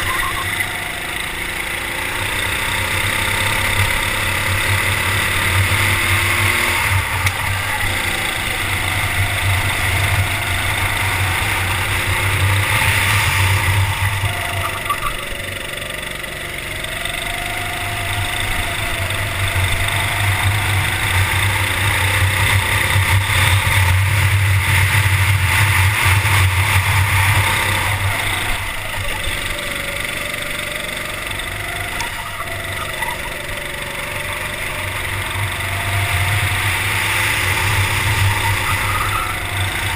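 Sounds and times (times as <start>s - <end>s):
kart engine running at speed: 0.0s - 39.9s.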